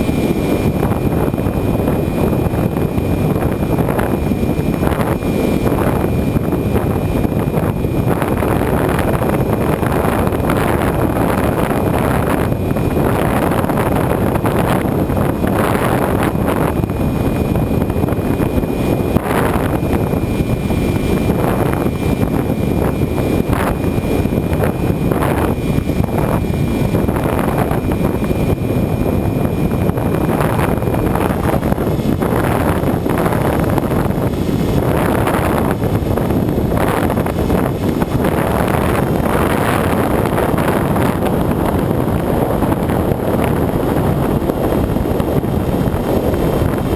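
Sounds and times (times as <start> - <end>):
faint high whine: 0.0 - 46.9
wind rushing over camera: 0.0 - 46.9.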